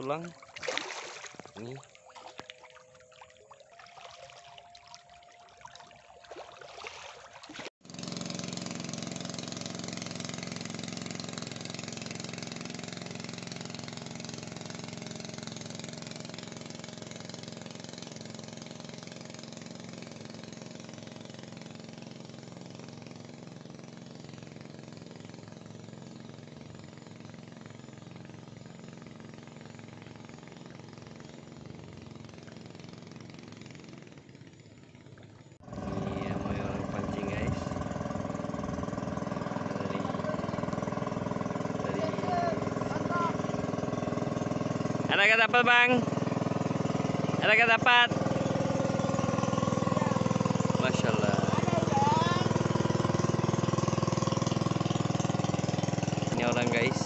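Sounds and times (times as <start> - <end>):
boat motor drone: 0.0 - 57.0.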